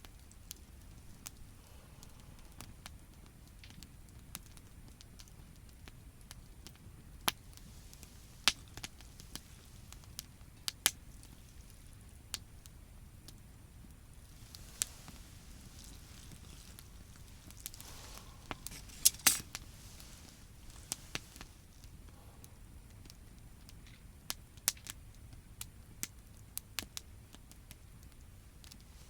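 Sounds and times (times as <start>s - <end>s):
campfire crackling: 0.0s - 29.0s
sharp pops of fire: 0.0s - 29.0s.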